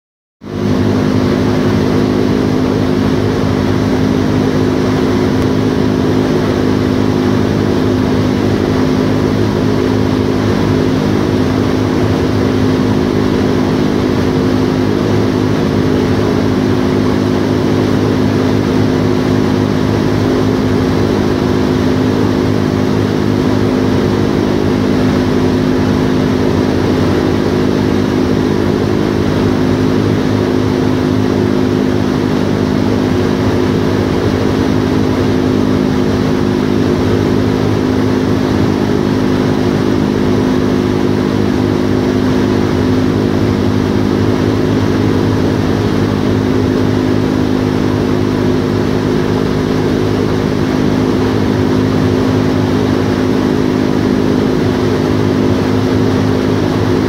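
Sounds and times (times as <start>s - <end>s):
propeller engines droning: 0.4s - 57.0s.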